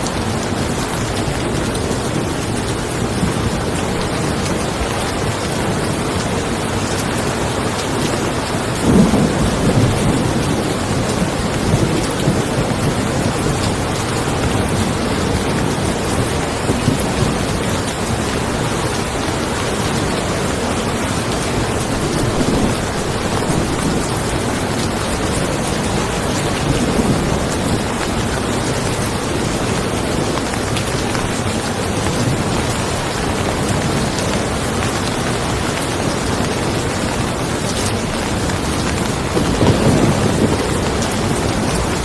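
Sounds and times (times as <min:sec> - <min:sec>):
rain falling on a car: 0:00.0 - 0:42.0
thunder rumbling: 0:00.0 - 0:42.0.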